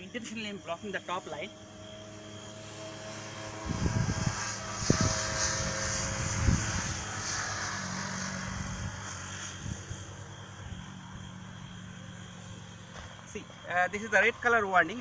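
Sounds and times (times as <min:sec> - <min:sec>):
vehicle engine passing: 0:00.8 - 0:14.0.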